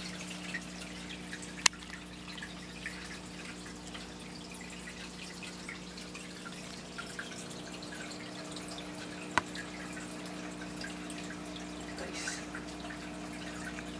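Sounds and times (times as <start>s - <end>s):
water dripping and trickling: 0.0s - 13.9s.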